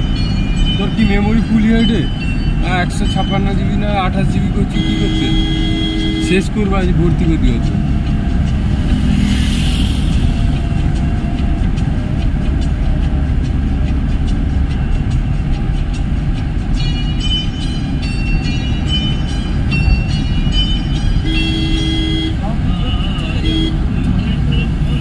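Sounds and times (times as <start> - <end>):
road and wind noise inside car: 0.0 - 25.0.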